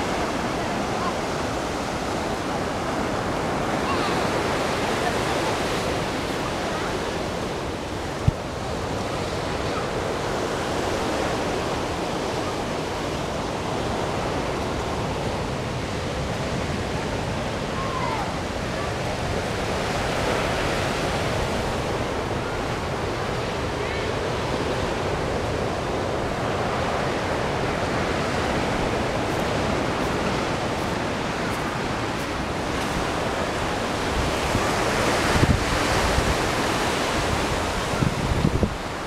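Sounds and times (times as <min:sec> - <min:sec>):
ocean waves washing in: 0:00.0 - 0:39.0.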